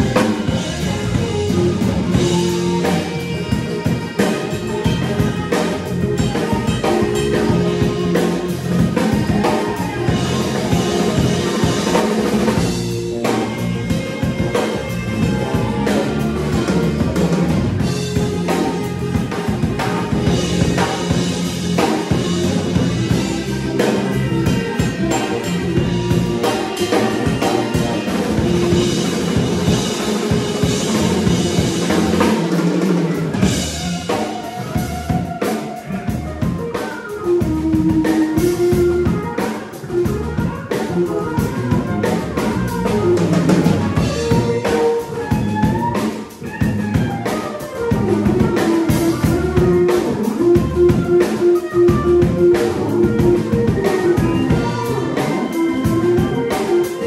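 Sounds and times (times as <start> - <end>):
drum kit with cymbals and snare: 0.0 - 57.0
electric bass: 0.0 - 57.0
electric guitar: 0.0 - 57.0
keyboard: 0.0 - 57.0.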